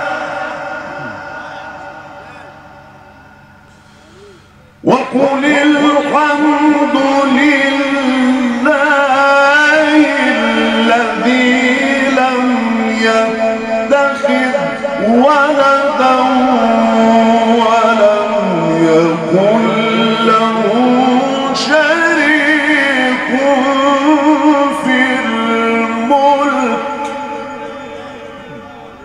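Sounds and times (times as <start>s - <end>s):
man reciting melodically: 0.0s - 2.9s, 3.9s - 29.0s.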